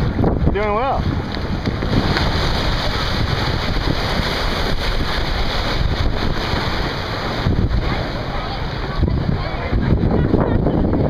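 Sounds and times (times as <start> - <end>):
sea water washing around kayak: 0.0 - 11.0
wind buffeting microphone: 0.0 - 11.0.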